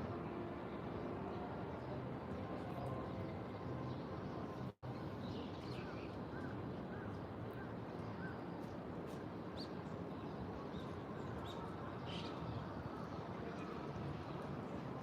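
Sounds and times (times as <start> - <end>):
low outdoor ambience: 0.0 - 15.0.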